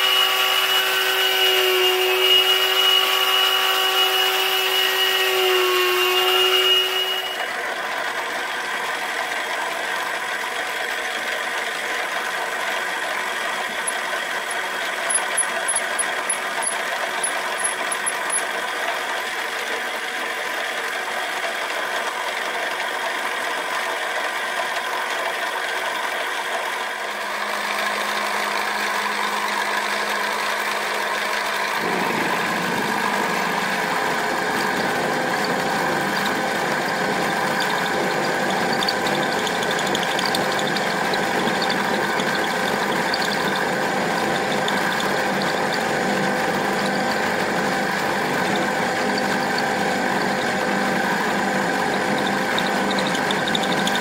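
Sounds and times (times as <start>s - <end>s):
milling machine whine: 0.0s - 21.7s, 24.3s - 54.0s.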